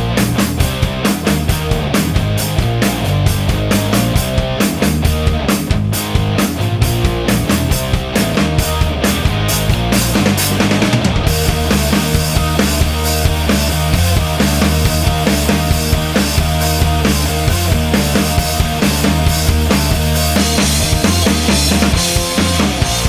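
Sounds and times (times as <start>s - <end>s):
distorted guitar: 0.0s - 23.0s
driving drum kit: 0.0s - 23.0s
loud rock music: 0.0s - 23.0s.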